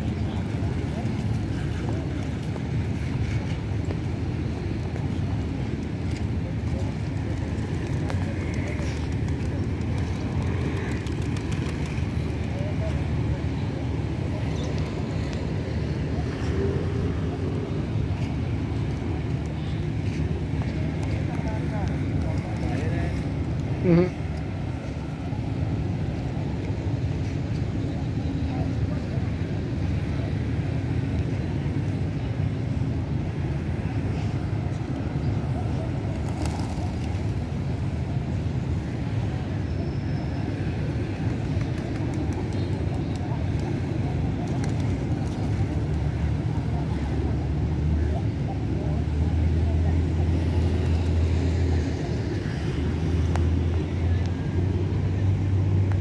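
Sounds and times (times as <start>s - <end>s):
low rumble of city background: 0.0s - 56.0s.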